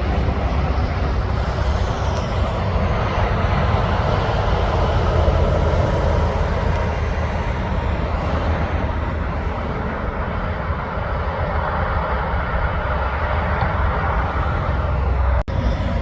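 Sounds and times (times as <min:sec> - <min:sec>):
traffic engine rumble and tyre noise: 0:00.0 - 0:16.0.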